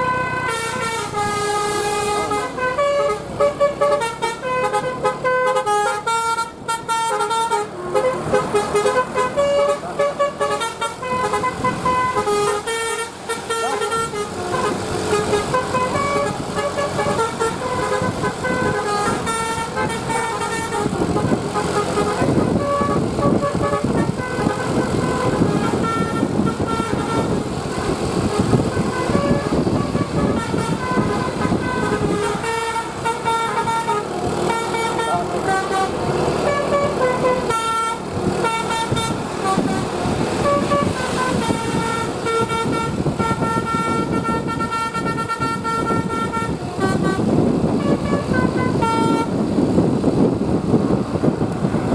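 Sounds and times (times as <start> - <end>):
multi-tone air horn tune: 0.0 - 49.4
bus engine rumble: 0.0 - 51.9.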